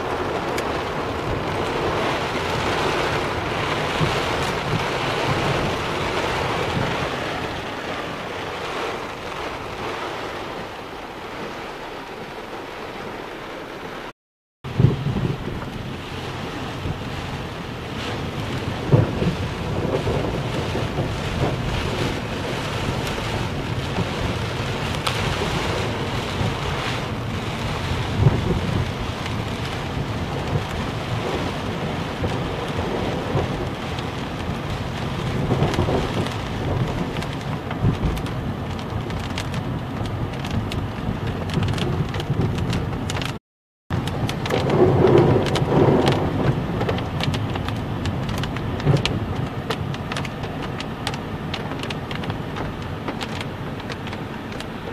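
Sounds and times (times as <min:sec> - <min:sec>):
heavy rain pouring: 0:00.0 - 0:54.9
thunder rumbling: 0:00.0 - 0:54.9.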